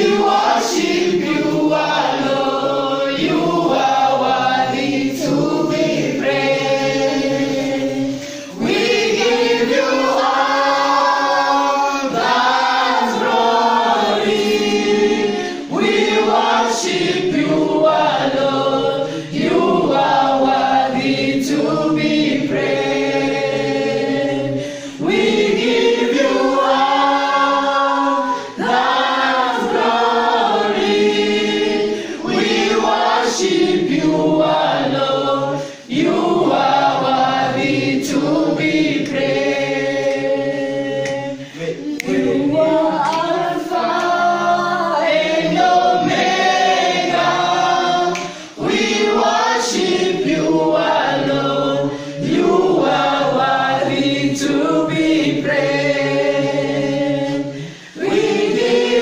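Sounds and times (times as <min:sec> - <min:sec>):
choir singing praise song: 0:00.0 - 0:59.0.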